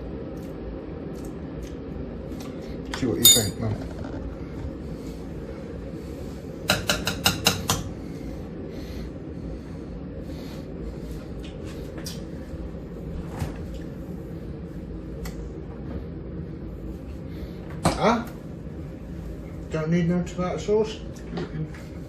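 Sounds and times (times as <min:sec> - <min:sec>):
low hum: 0:00.0 - 0:06.9, 0:07.6 - 0:22.0.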